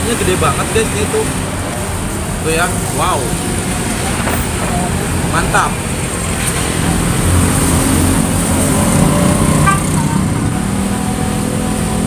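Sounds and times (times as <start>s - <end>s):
road traffic: 0.0s - 12.0s
vehicle engine passing by: 0.0s - 12.0s.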